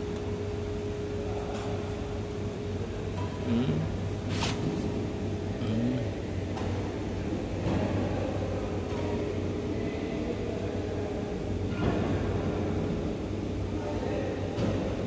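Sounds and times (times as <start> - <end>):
low mechanical hum: 0.0 - 15.0
noisy background: 0.0 - 15.0.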